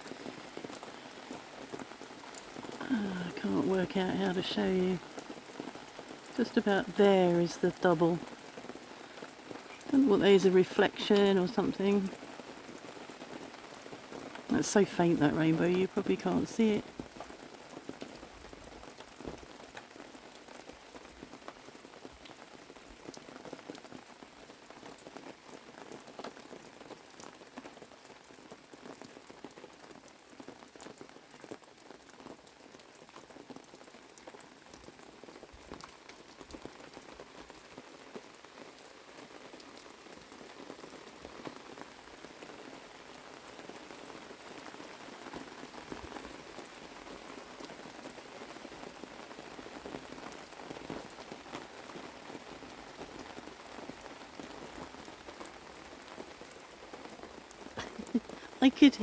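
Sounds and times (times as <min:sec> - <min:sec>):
rain falling: 0:00.0 - 0:59.0
raindrops ticking: 0:00.0 - 0:59.0.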